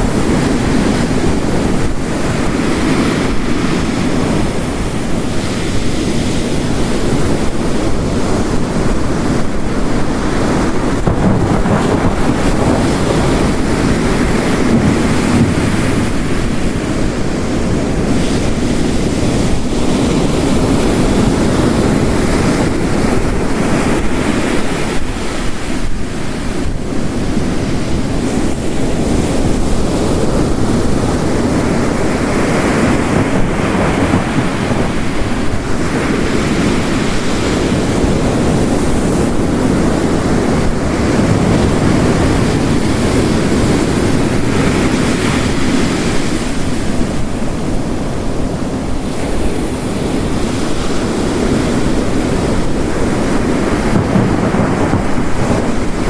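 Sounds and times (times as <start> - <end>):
heavy rain: 0.0 - 56.0
ocean waves crashing on rocks: 0.0 - 56.0.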